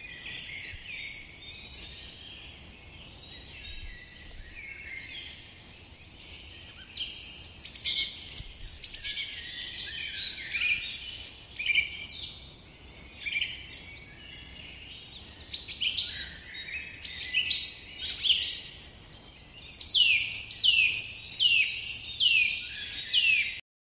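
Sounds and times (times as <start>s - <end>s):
birds chirping: 0.0s - 23.6s.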